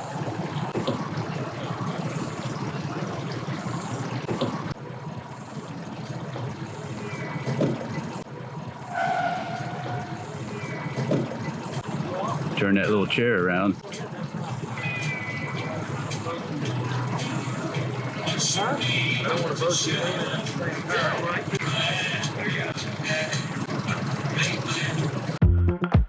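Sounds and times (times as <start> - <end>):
engine running at low revs: 0.0 - 25.4.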